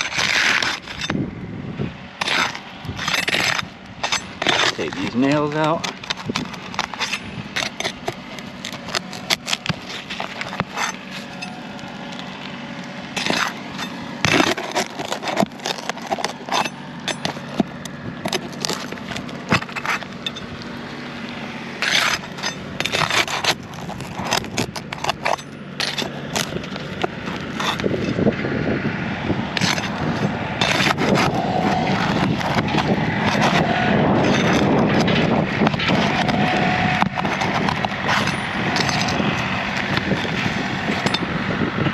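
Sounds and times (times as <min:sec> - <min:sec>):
metal scraping nails from shingles: 0:00.0 - 0:01.2, 0:02.2 - 0:28.3, 0:29.6 - 0:41.3
loud steady noise: 0:00.0 - 0:41.9.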